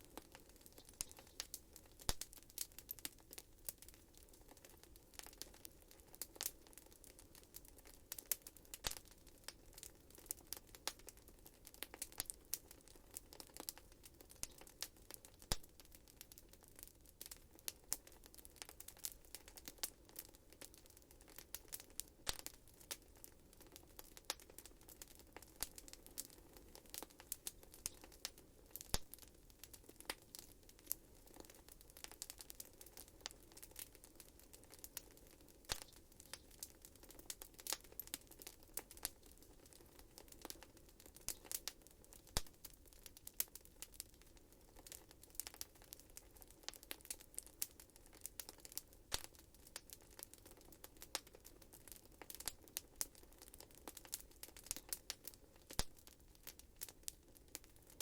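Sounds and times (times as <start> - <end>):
faint steady hiss: 0.0 - 58.0
wood fire crackling: 0.0 - 58.0.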